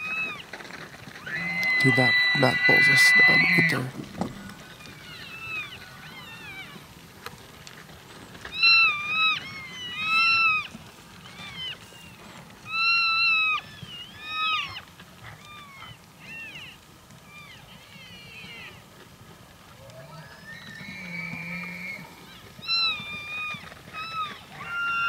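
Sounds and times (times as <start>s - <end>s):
elk herd mewing and chirping: 0.0s - 25.0s.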